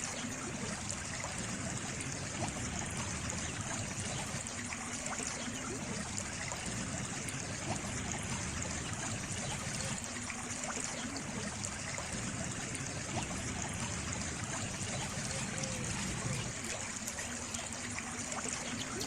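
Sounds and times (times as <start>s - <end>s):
small stream babbling: 0.0s - 19.0s.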